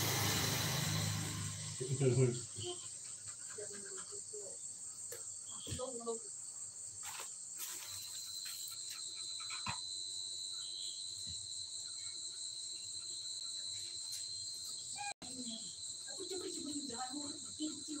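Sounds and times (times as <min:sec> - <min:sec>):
insects chirring: 0:00.4 - 0:18.0
thin insect tone: 0:00.4 - 0:18.0.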